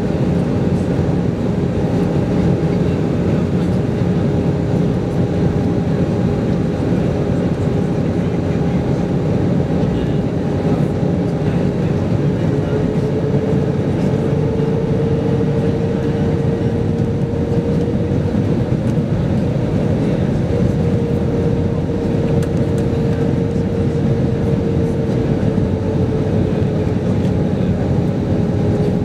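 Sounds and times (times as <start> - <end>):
airplane cabin engine drone: 0.0 - 29.0.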